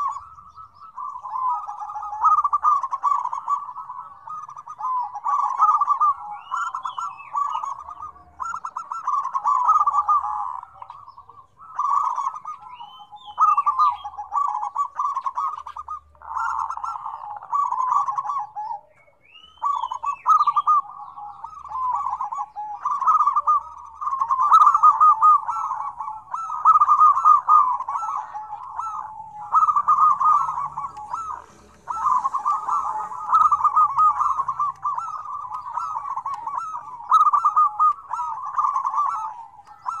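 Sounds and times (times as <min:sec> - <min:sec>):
doves cooing: 0:00.0 - 0:40.0.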